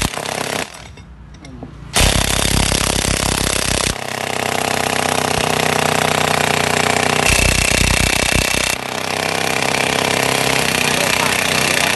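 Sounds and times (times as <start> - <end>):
impact wrench hammering on bolt: 0.0 - 11.9.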